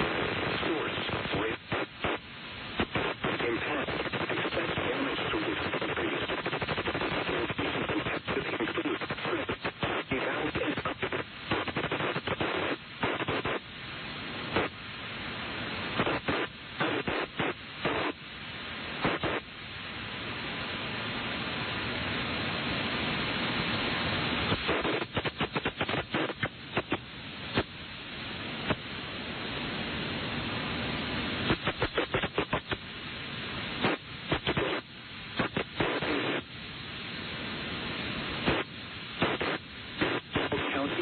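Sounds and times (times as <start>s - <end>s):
radio static hiss: 0.0s - 41.0s.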